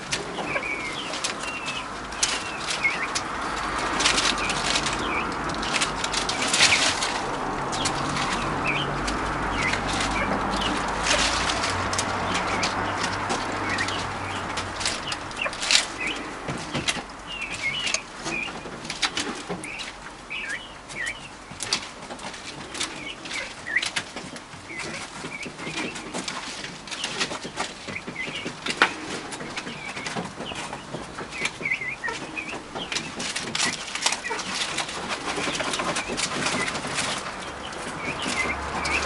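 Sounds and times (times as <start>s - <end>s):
rustling leaves and twigs: 0.0s - 39.0s
young grouse peeping: 0.1s - 21.8s, 24.7s - 39.0s.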